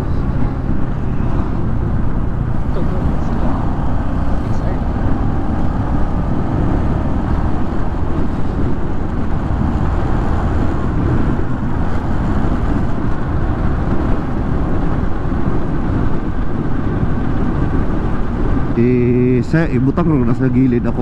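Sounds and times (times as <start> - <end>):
motorcycle engine: 0.0 - 19.4
wind buffeting microphone: 0.0 - 21.0.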